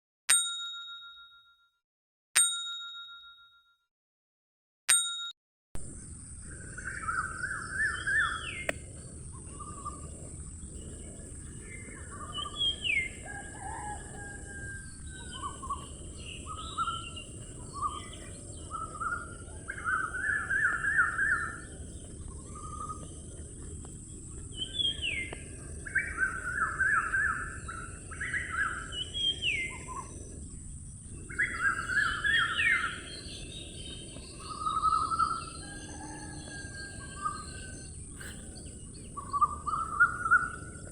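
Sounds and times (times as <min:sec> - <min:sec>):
steady high-pitched hiss: 0:05.8 - 0:40.9
birds singing: 0:05.9 - 0:40.9.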